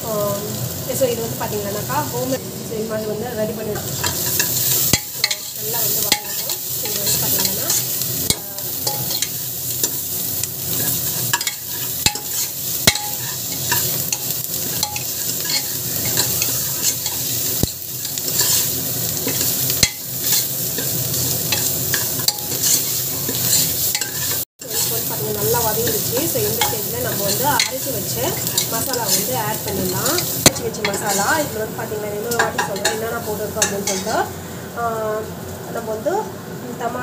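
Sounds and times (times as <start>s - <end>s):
onions sizzling in hot oil: 0.0s - 37.0s
metal spoon scraping a pan: 3.8s - 31.5s, 32.2s - 34.3s.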